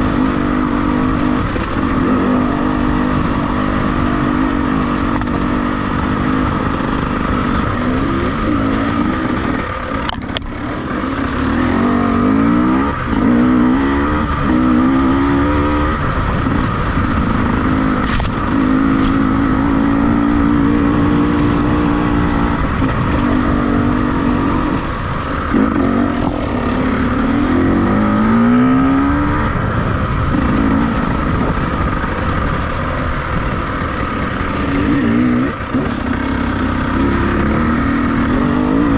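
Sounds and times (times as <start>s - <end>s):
off-road vehicle engine revving: 0.0s - 38.9s
steady rushing noise: 0.0s - 38.9s.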